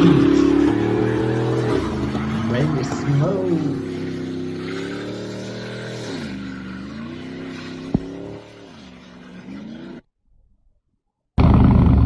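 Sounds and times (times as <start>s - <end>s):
pickup truck engine through loud exhaust: 0.0s - 10.0s, 11.4s - 12.0s.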